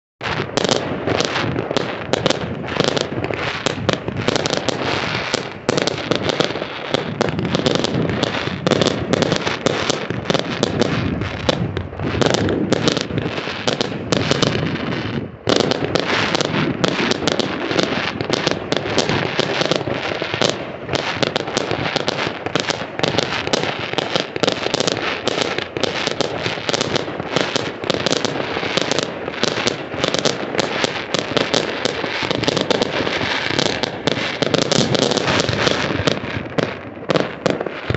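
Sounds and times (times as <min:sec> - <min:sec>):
fireworks bangs: 0:00.2 - 0:37.9.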